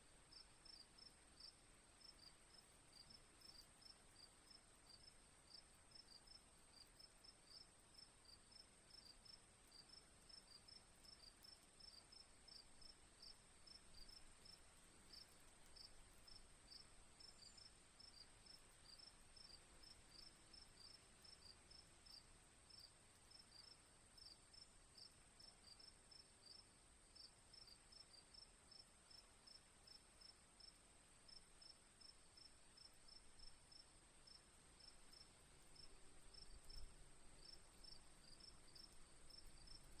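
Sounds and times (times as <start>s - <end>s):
crickets chirping: 0.3s - 40.0s.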